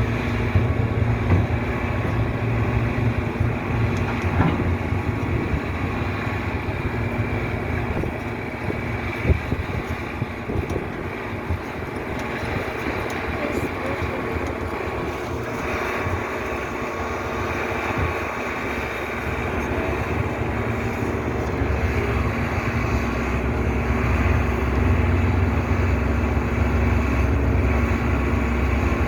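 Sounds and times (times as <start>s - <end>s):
heavy vehicle engine rumble: 0.0s - 29.0s.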